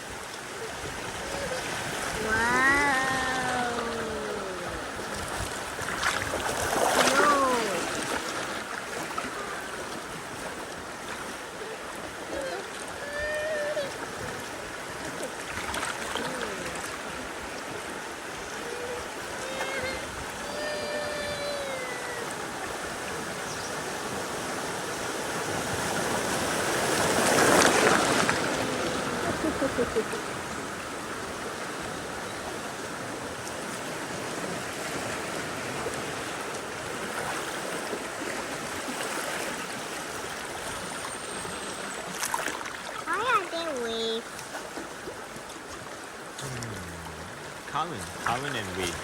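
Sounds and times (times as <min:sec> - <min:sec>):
river water rushing and splashing: 0:00.0 - 0:49.0.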